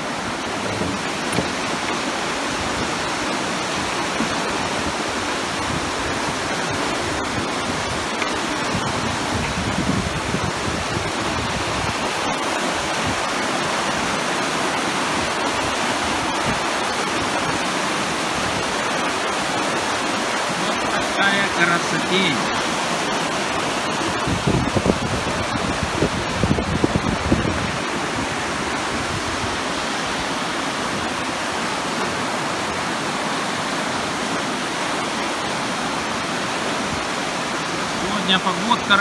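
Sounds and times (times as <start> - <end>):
river rushing over rocks: 0.0 - 39.0.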